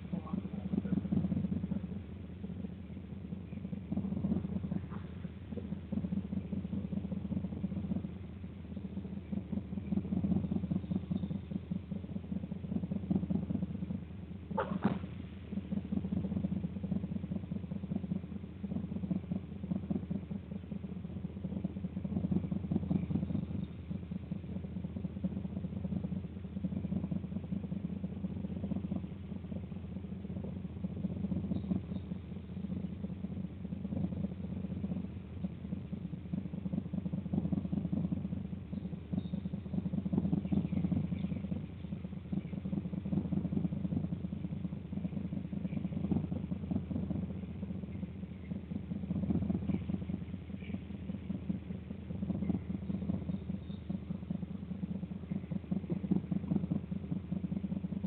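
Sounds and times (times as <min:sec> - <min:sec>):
low mechanical rumble: 0:00.0 - 0:58.0.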